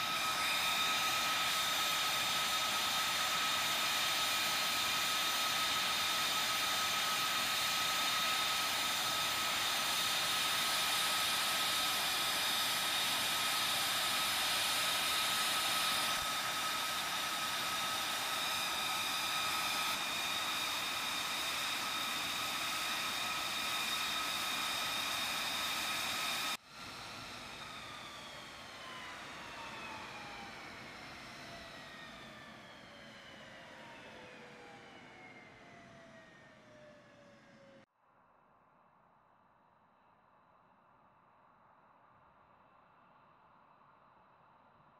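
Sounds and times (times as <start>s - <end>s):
jet engine idling whine: 0.0s - 37.9s.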